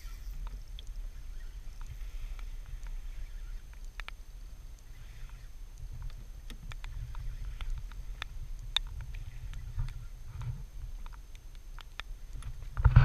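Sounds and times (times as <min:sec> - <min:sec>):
low wind rumble on microphone: 0:00.0 - 0:13.0.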